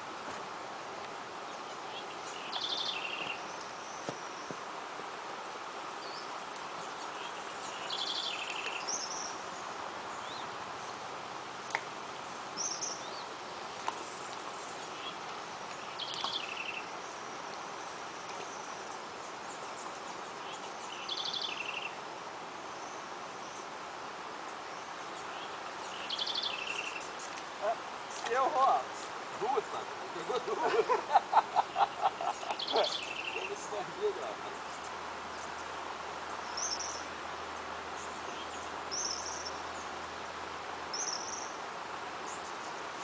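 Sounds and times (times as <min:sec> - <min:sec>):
outdoor insect hiss: 0:00.0 - 0:43.0.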